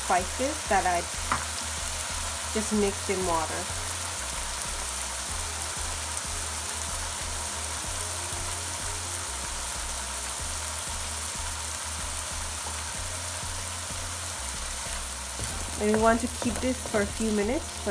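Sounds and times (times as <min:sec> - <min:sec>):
onion frying in oil: 0:00.0 - 0:17.9.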